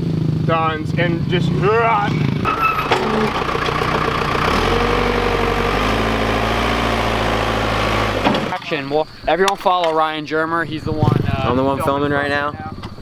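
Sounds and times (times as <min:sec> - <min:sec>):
motorbike engine idling: 0:00.0 - 0:09.2, 0:10.8 - 0:13.0.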